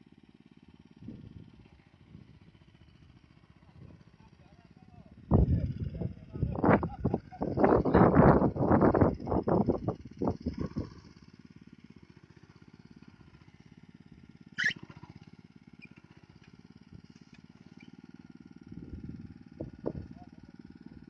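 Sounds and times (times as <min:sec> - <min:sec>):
rice transplanter engine running: 0:00.0 - 0:21.0.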